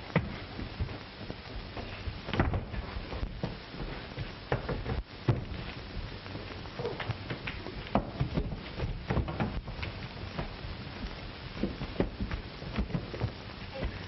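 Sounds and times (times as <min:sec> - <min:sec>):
film soundtrack hiss and hum: 0:00.0 - 0:14.0.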